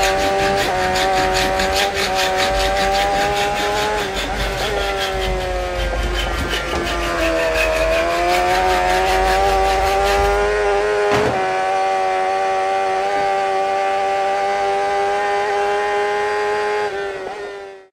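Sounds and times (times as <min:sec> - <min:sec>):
motorcycle engine revving high: 0:00.0 - 0:17.9.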